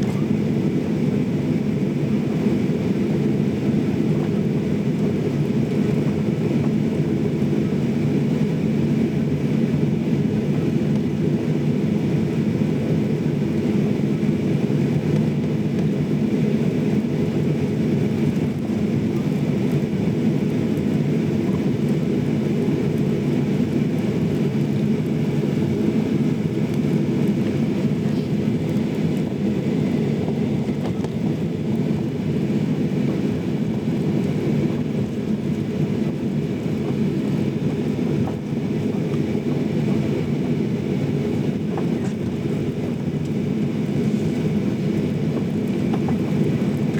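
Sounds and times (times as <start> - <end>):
jet airliner cabin rumble: 0.0 - 46.9.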